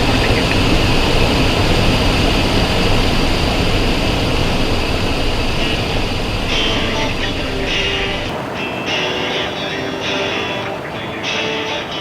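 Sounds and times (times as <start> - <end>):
jet engine hum: 0.0 - 12.0
rush of air over cabin: 0.0 - 12.0.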